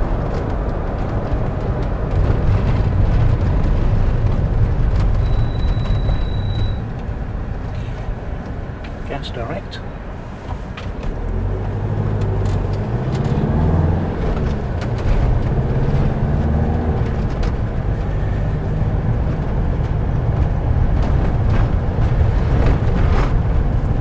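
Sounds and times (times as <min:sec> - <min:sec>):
motorhome engine hum: 0:00.0 - 0:24.0
tyre road noise: 0:00.0 - 0:24.0.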